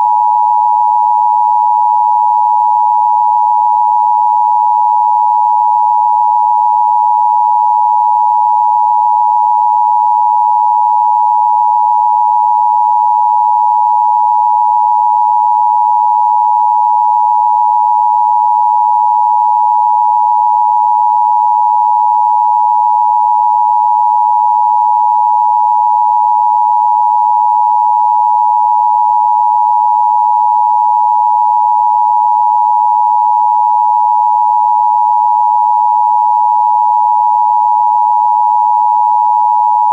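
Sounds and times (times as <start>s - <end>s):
two-tone alarm beep: 0.0s - 39.9s.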